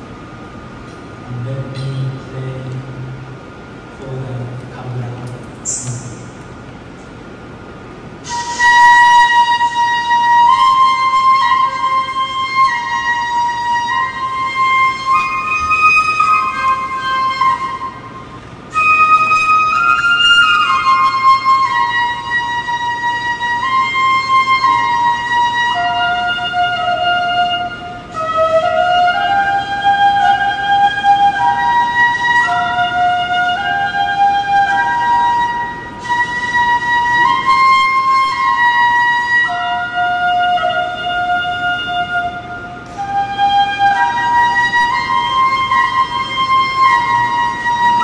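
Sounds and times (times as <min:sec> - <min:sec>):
solo flute melody: 0:08.2 - 0:48.0.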